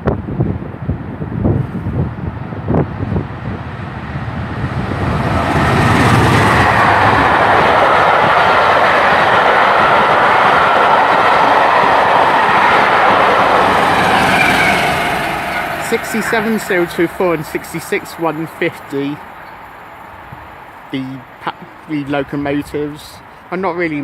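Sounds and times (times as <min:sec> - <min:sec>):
train wheels rushing on rail: 0:02.6 - 0:22.2.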